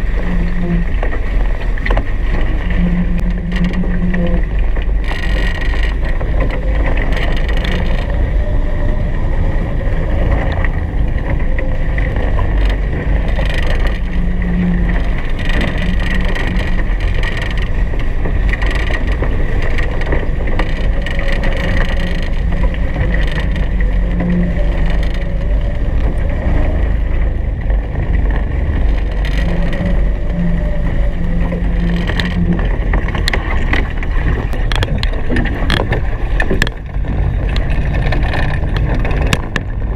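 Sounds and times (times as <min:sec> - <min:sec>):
water rushing past hulls: 0:00.0 - 0:39.9
wind buffeting microphone: 0:00.0 - 0:39.9.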